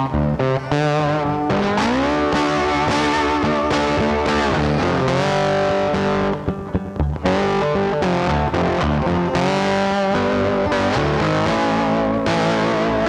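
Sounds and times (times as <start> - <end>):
distorted electric guitar music: 0.0 - 13.0.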